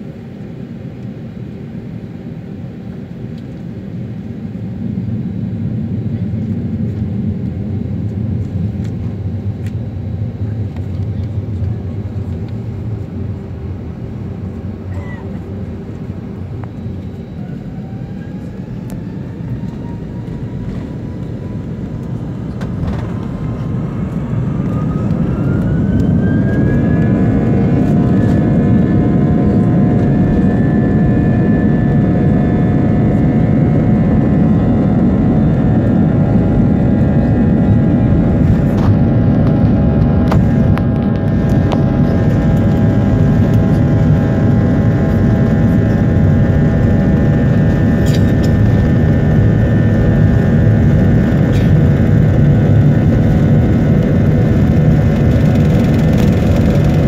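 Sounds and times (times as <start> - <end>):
rising engine whine: 0.1 - 57.0
jet engines spooling up: 5.7 - 57.0.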